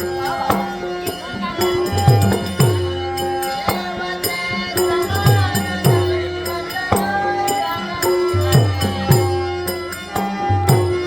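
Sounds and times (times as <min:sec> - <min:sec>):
hand drum beating: 0:00.0 - 0:11.0.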